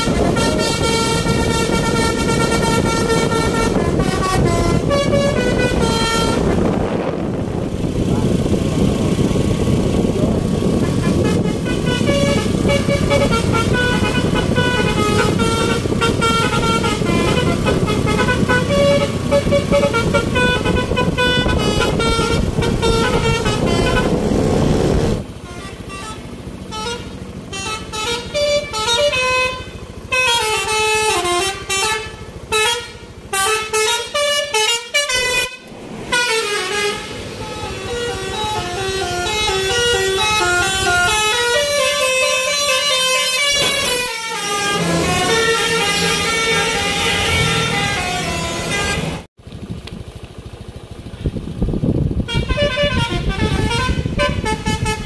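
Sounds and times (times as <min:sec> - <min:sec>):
multi-tone bus horn melody: 0:00.0 - 0:49.3, 0:52.2 - 0:55.0
engine and road noise: 0:00.0 - 0:55.0.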